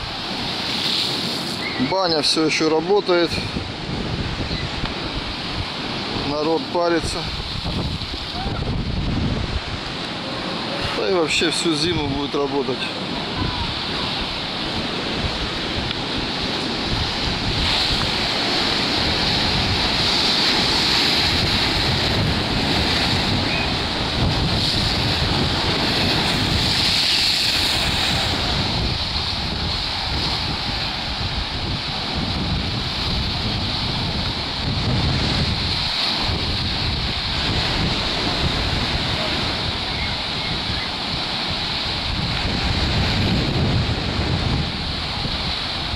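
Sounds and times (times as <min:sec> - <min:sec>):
waves breaking on shore: 0:00.0 - 0:45.9
wind gusts on microphone: 0:00.0 - 0:45.9.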